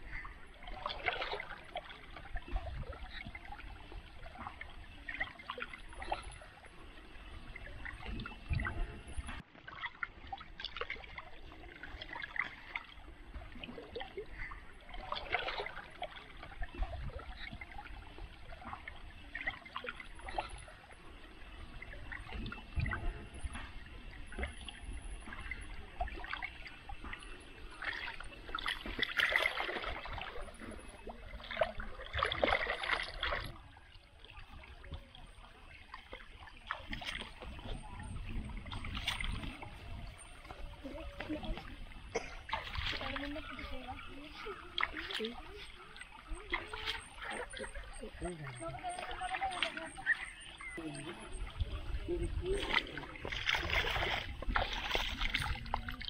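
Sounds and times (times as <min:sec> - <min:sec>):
muddy water splashing: 0:00.0 - 0:56.0.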